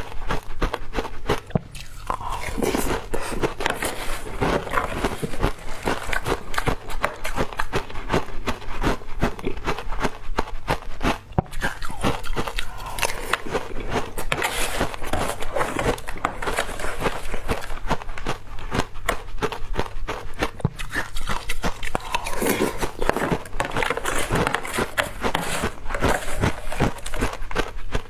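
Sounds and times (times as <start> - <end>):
ice being chewed: 0.0 - 28.0.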